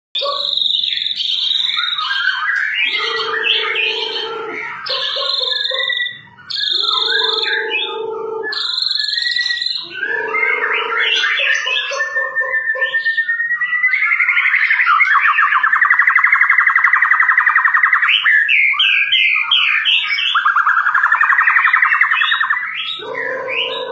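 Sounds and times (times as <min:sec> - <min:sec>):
bird singing whistles: 0:00.2 - 0:23.9.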